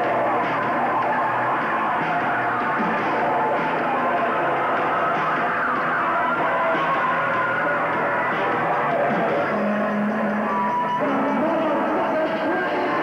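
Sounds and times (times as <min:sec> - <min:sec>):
guitar: 0:00.0 - 0:13.0
muffled live rock band: 0:00.0 - 0:13.0.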